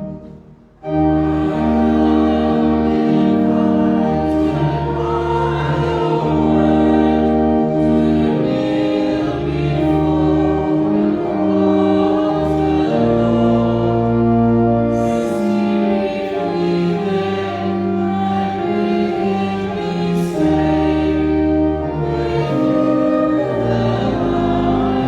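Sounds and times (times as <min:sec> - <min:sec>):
church organ chords: 0:00.0 - 0:25.0
congregation singing a hymn: 0:00.0 - 0:25.0.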